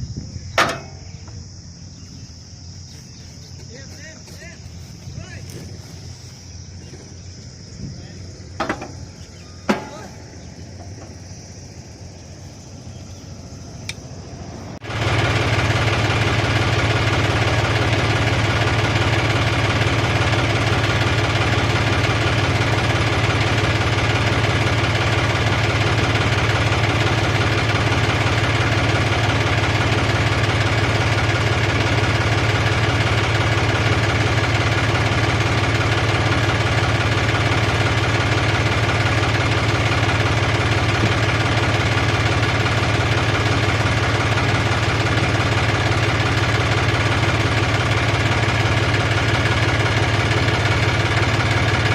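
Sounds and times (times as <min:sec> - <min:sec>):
engine running steadily: 0:00.0 - 0:51.9.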